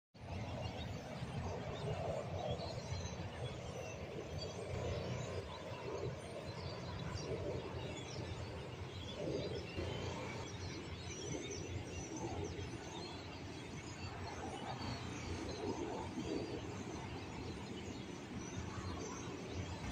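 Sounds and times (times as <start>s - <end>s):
steady low rumble: 0.2s - 19.9s.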